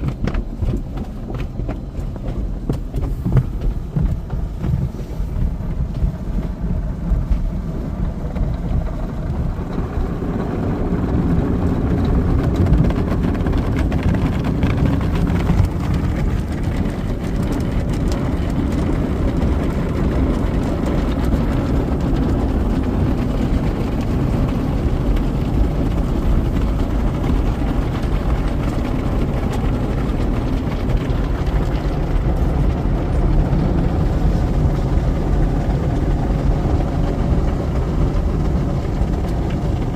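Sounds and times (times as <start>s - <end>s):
car wash machinery roar: 0.0s - 39.9s.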